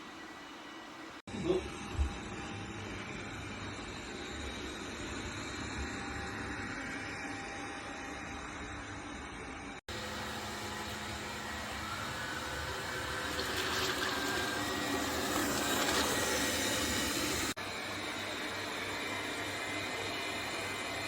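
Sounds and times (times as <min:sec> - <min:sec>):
robot vacuum cleaner whirring: 0:01.5 - 0:21.0.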